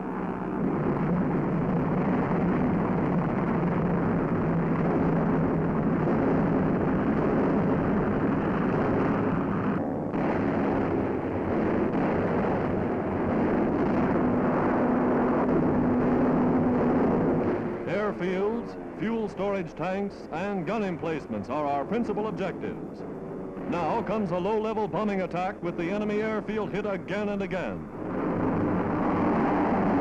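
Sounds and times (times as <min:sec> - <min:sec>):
propeller warplanes droning: 0:00.0 - 0:30.0.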